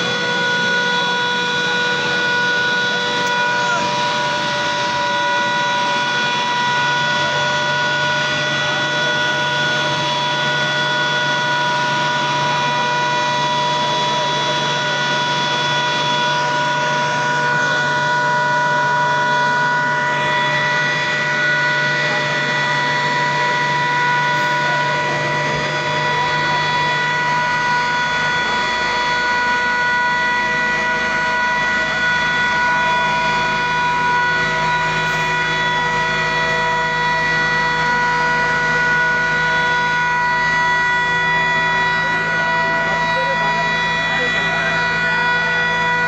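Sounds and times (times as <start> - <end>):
pump machine whine: 0.0 - 46.0.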